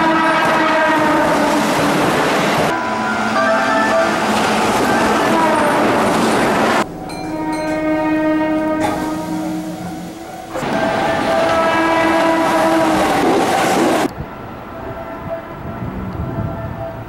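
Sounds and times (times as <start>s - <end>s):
electric train horn: 0.0s - 1.8s, 2.7s - 14.1s, 14.8s - 17.0s
trains running: 0.0s - 17.0s.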